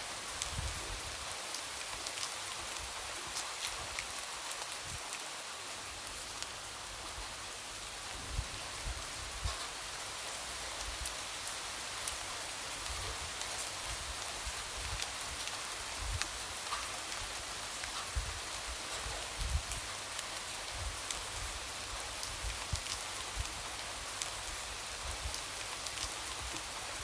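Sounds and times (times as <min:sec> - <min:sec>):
light rain on a window: 0:00.0 - 0:27.0.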